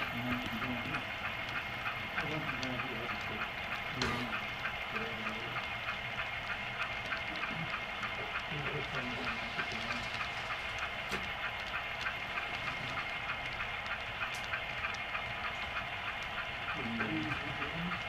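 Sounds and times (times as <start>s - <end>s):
model train wheels clicking: 0.0s - 18.0s.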